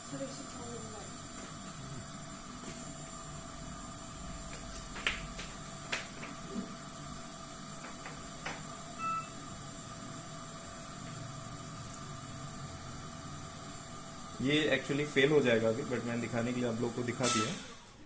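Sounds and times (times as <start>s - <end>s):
ventilator hissing: 0.0s - 18.0s.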